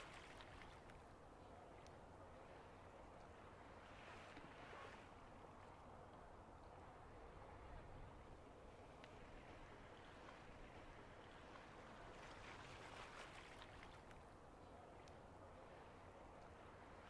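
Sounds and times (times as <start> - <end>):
low steady rumble: 0.0 - 17.0
soft water wash: 0.0 - 17.0.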